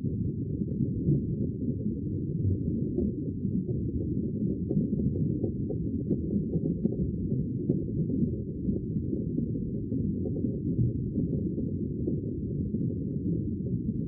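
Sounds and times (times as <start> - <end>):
sea water low rumble: 0.0 - 14.0.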